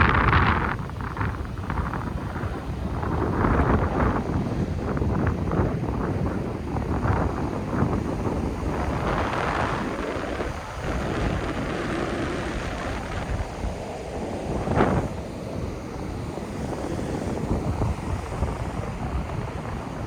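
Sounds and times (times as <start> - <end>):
sea surf breaking on beach: 0.0 - 20.0
wind buffeting microphone: 0.0 - 20.0.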